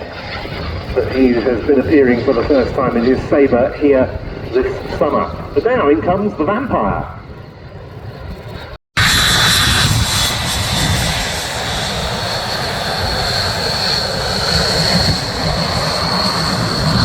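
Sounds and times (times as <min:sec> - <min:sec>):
jet flying by: 0:00.0 - 0:17.0.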